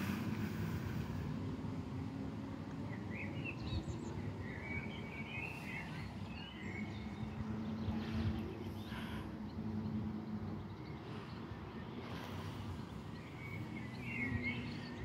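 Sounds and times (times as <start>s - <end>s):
distant traffic: 0.0s - 15.0s
wind: 0.0s - 15.0s
birds chirping: 2.8s - 15.0s.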